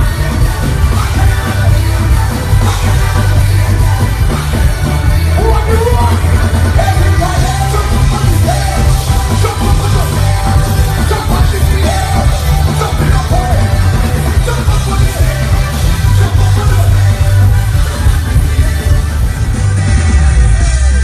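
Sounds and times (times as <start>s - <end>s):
live band playing soca: 0.0s - 21.0s
person singing: 0.0s - 21.0s.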